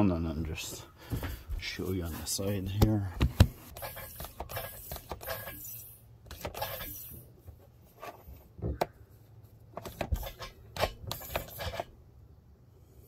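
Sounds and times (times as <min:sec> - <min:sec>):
rubber hose rubbing and shuffling: 0:00.6 - 0:08.5, 0:09.2 - 0:11.9.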